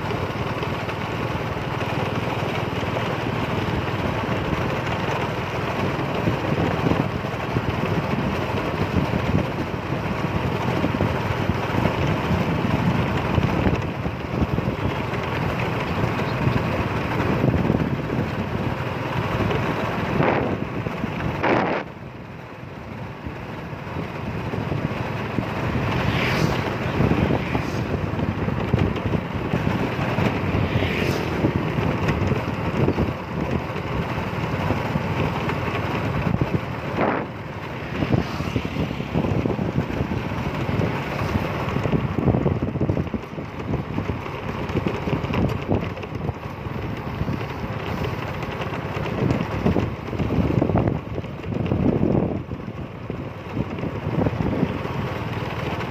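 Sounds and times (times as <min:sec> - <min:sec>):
road and vehicle noise: 0:00.0 - 0:55.9
wind buffeting microphone: 0:00.0 - 0:55.9.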